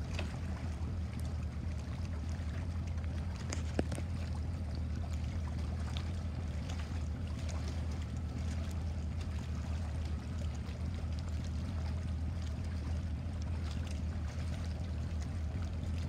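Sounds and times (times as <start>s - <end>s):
low rumble: 0.0s - 16.0s
water lapping and splashing: 0.0s - 16.0s.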